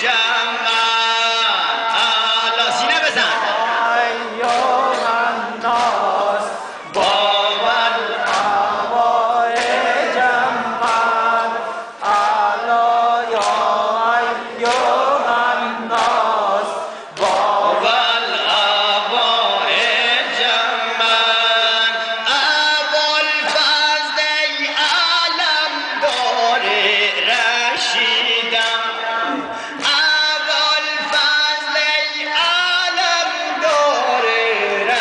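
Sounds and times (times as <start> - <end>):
man chanting through microphone: 0.0 - 35.0
rhythmic chest-striking beats: 0.0 - 35.0.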